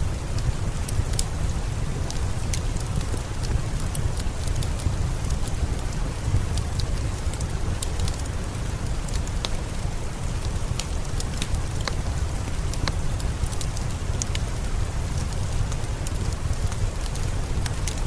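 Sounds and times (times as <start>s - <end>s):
steady rain: 0.0s - 18.0s
wood fire crackling: 0.0s - 18.0s.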